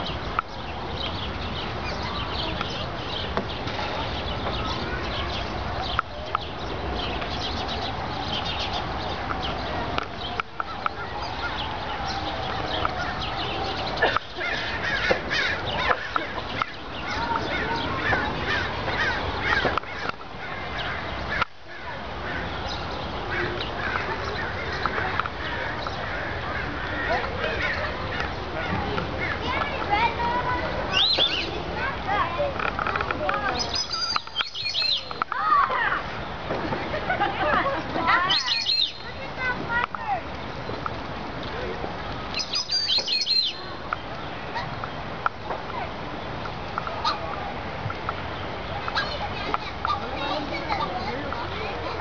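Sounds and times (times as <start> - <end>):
birds chirping and calling: 0.0 - 52.0
steady background noise: 0.0 - 52.0.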